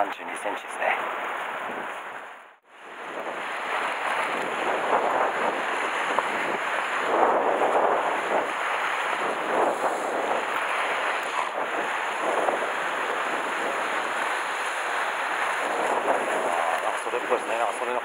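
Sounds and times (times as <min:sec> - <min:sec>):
surf on rocky shore: 0:00.0 - 0:18.0
wind buffeting microphone: 0:00.0 - 0:18.0.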